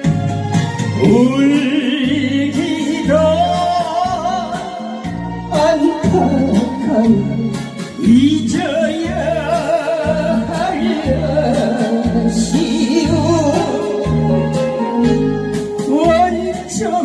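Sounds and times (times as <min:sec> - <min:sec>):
backing track with bass and beat: 0:00.0 - 0:17.0
man singing into a microphone: 0:00.7 - 0:17.0.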